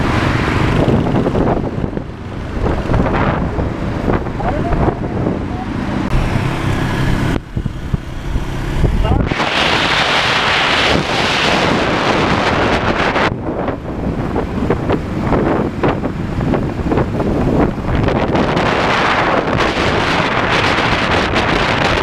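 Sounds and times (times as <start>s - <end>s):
motorcycle engine and road noise: 0.0s - 22.0s
wind buffeting microphone: 0.0s - 22.0s.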